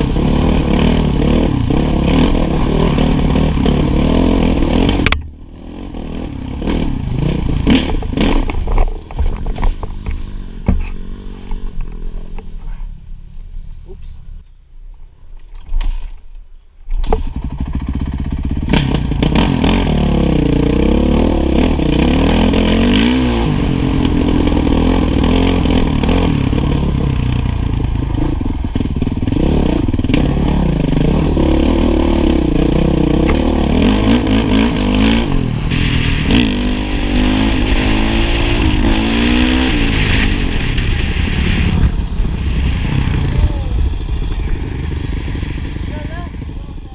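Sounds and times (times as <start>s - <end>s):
motorcycle engine revving: 0.0s - 12.6s, 17.0s - 46.9s.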